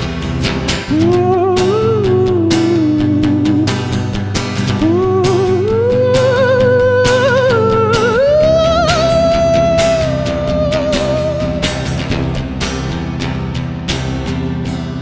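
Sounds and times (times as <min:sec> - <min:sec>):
drums steady beat: 0:00.0 - 0:14.8
held bass: 0:00.0 - 0:15.0.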